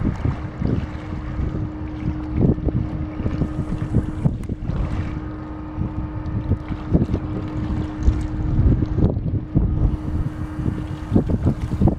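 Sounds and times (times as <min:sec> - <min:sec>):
ship engine low hum: 0:00.0 - 0:11.9
wind buffeting microphone: 0:00.0 - 0:11.9.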